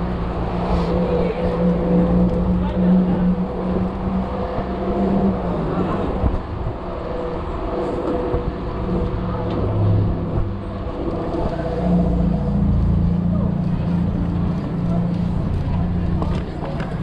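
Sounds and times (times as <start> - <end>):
car engines humming: 0.0 - 17.0
road noise: 0.0 - 17.0.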